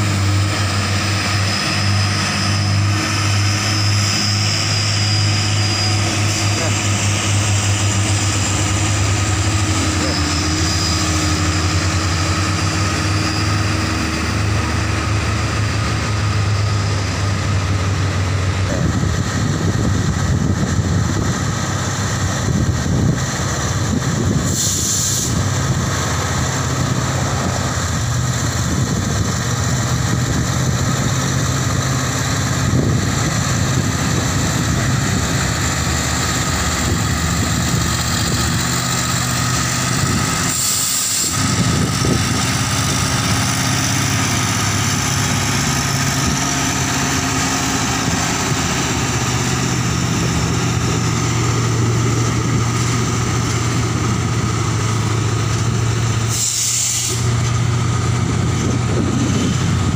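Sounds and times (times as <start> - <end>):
rough truck engine passing: 0.0 - 59.9
truck diesel engine drone: 0.0 - 59.9.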